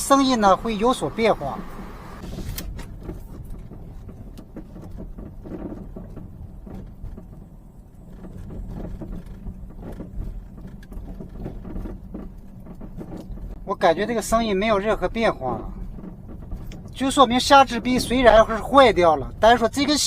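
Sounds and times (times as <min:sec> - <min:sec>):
low road rumble: 0:00.0 - 0:20.0
suspension clunking: 0:00.0 - 0:20.0.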